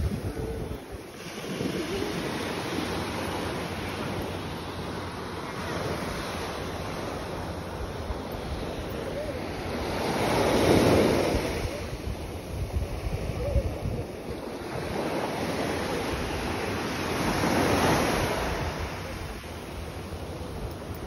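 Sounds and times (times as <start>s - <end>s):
wind buffeting microphone: 0.0s - 5.0s, 7.0s - 21.0s
small waves breaking on sand: 0.0s - 21.0s.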